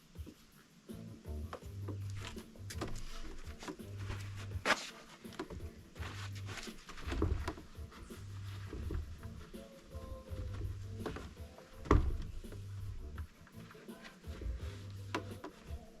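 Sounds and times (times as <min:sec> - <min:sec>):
background music with bass line: 0:00.0 - 0:16.0.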